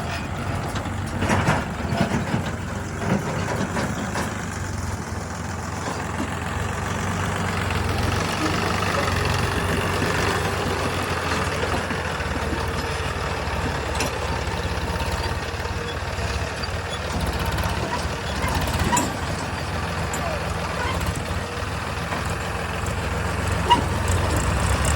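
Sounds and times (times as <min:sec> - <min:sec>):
heavy diesel engines under load: 0:00.0 - 0:24.9.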